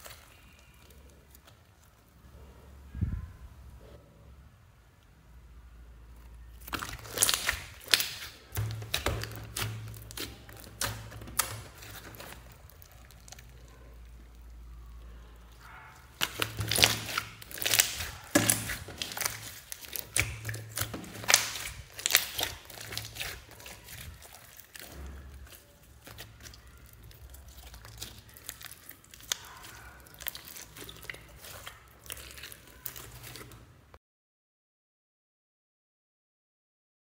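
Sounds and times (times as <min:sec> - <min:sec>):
hands kneading sticky slime: 0:00.0 - 0:02.5, 0:06.1 - 0:33.9.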